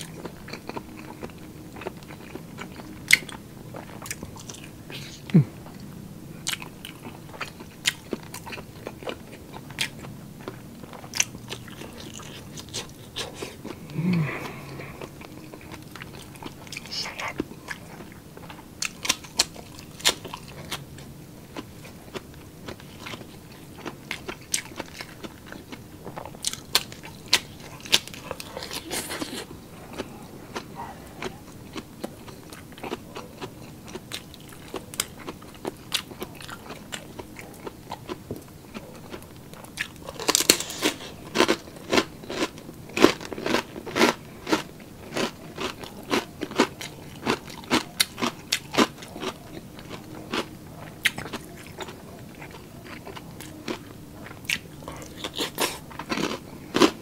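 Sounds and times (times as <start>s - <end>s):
person chewing crisp food: 0.0s - 57.0s.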